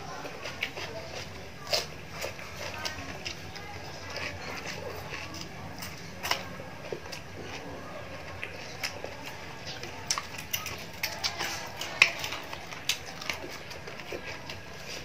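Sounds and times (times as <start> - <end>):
chewing crisp fried fish: 0.0 - 15.0.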